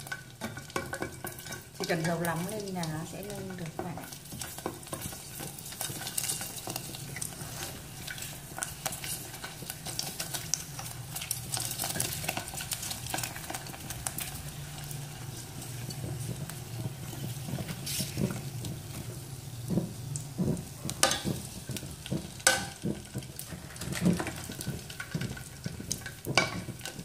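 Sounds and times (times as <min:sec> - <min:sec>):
crackers deep-frying in oil: 0:00.0 - 0:27.0.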